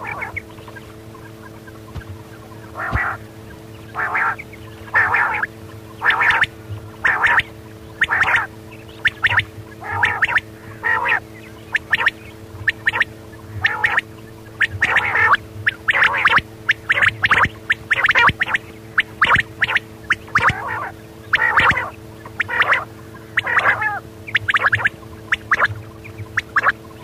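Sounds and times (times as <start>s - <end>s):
faint steady hum: 0.0s - 27.0s
quail calling: 0.0s - 27.0s.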